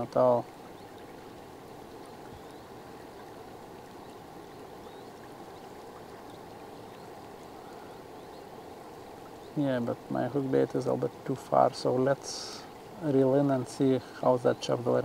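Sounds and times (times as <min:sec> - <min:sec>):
fast-flowing river water: 0:00.0 - 0:15.0.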